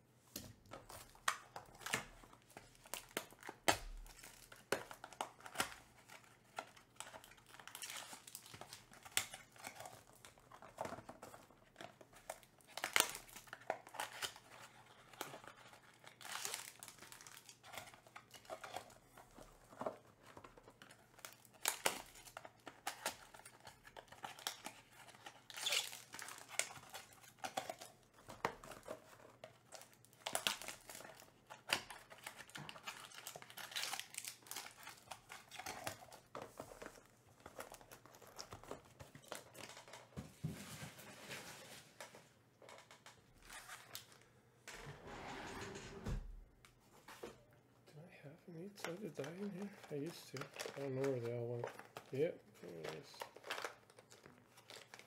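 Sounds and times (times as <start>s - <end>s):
crinkling of pack wrappers: 0.7s - 44.3s, 48.5s - 55.0s.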